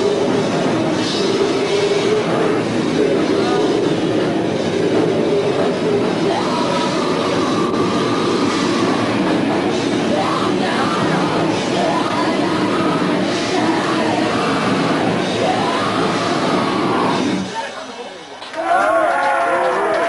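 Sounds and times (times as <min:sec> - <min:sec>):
metal vocals: 0:00.0 - 0:17.6.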